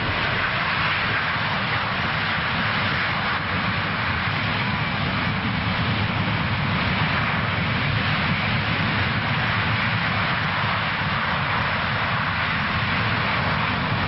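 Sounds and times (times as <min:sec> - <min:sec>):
jet engines roaring in reverse thrust: 0:00.0 - 0:14.0.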